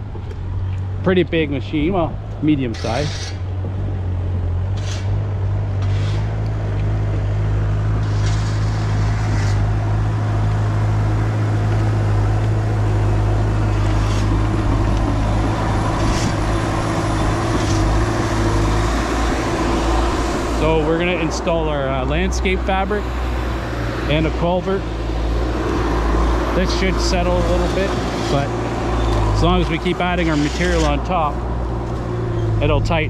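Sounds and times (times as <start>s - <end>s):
loader diesel engine running: 0.0s - 33.0s.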